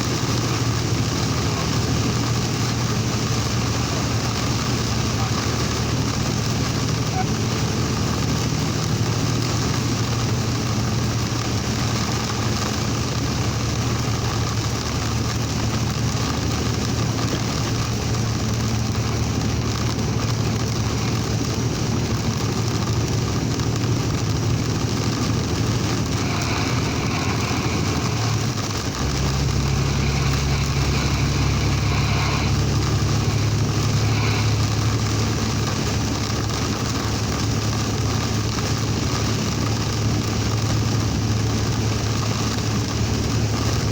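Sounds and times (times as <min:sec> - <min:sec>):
road noise hiss: 0:00.0 - 0:43.9
truck engine running: 0:00.0 - 0:43.9.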